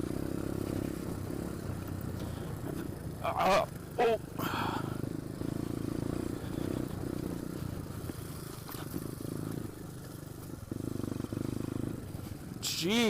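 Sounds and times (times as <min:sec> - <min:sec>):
motorbike engine revving: 0:00.0 - 0:13.0.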